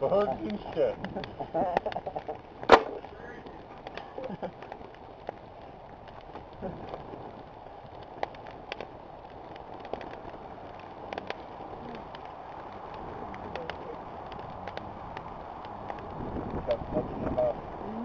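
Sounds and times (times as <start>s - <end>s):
campfire crackling: 0.0s - 18.0s
low hiss of fire: 0.0s - 18.0s.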